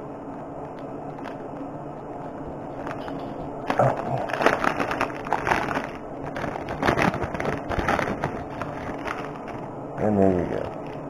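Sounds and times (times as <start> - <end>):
packet crinkling and crackling: 0.3 - 11.0.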